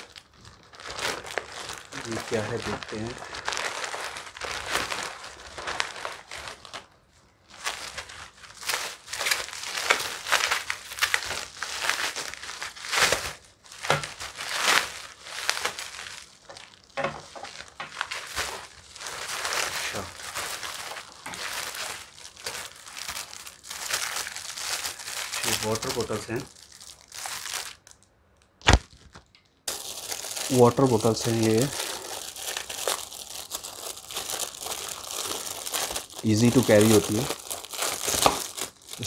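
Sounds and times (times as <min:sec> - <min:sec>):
plastic mailer and bubble wrap crinkling: 0:00.0 - 0:39.0.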